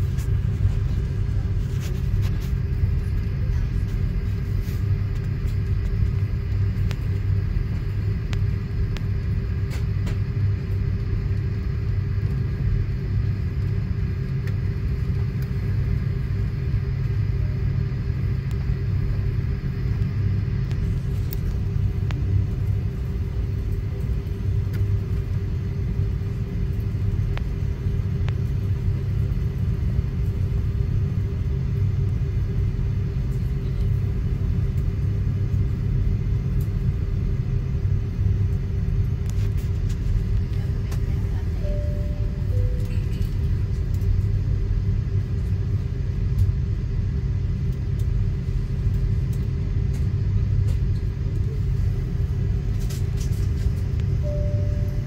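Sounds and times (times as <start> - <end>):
constant cabin hum: 0.0 - 55.0
jet engines low rumble: 0.0 - 55.0.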